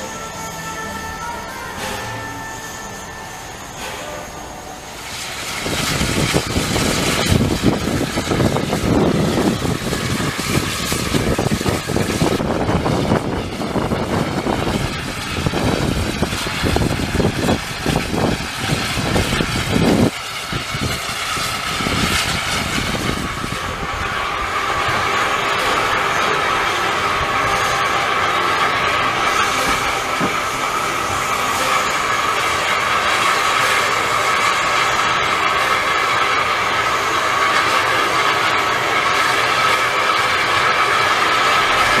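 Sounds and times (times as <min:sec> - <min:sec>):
hiss of escaping steam: 0:00.0 - 0:42.0
steam locomotive exhaust chuffing: 0:00.0 - 0:42.0.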